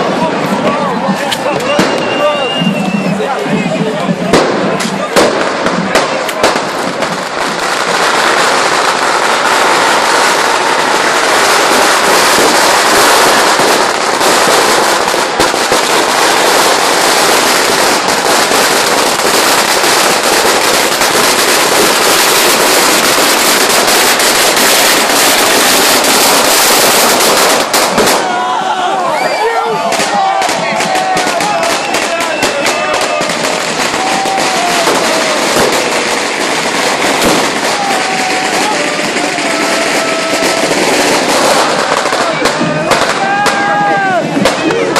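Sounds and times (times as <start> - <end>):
firecrackers crackling: 0.0 - 44.9.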